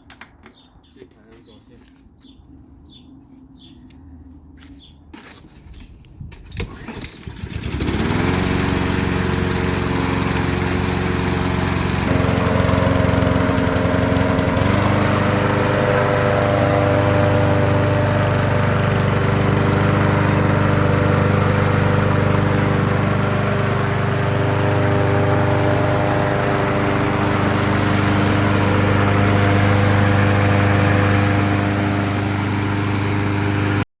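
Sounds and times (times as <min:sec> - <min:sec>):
lawn mower engine running: 0:06.6 - 0:33.8.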